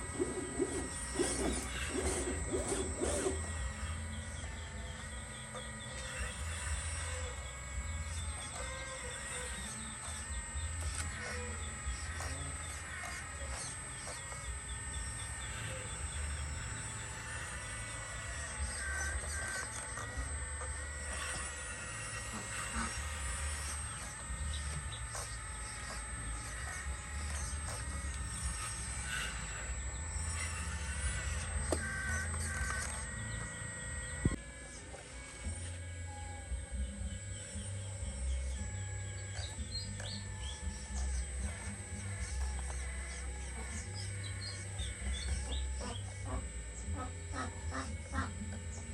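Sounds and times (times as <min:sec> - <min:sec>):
birds chirping: 0:00.0 - 0:48.9
constant high-pitched tone: 0:00.0 - 0:48.9.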